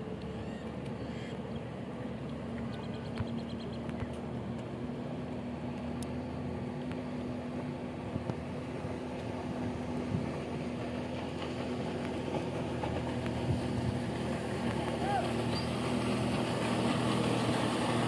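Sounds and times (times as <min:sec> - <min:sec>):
jet ski engine drone: 0:00.0 - 0:18.0.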